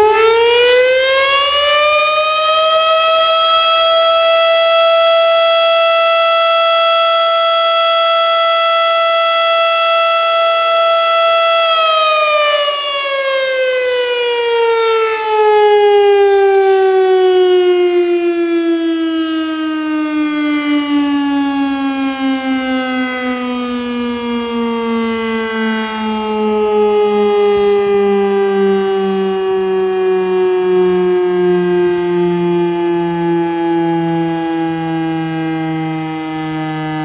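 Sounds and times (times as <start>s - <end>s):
fire siren winding down: 0.0s - 37.0s.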